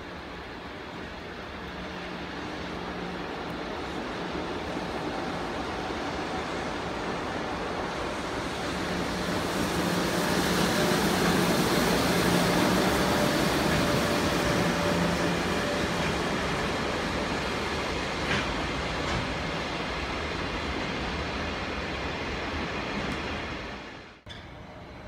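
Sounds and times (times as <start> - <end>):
electric locomotive hum: 0.0 - 25.0.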